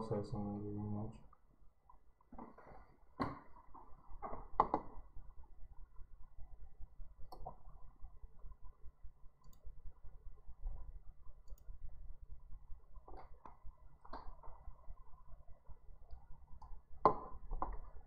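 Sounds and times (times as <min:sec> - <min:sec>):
small clicks: 0:01.2 - 0:06.4, 0:07.2 - 0:18.0
low steady hum: 0:03.4 - 0:18.0.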